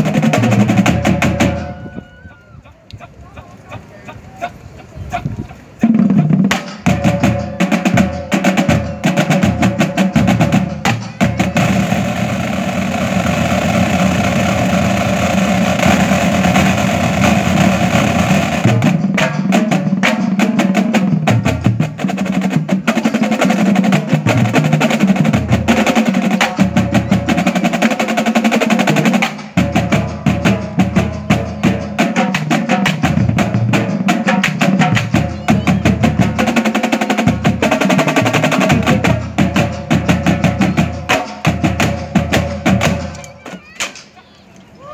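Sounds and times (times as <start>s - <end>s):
marching drum line: 0.0s - 3.9s, 5.2s - 44.3s.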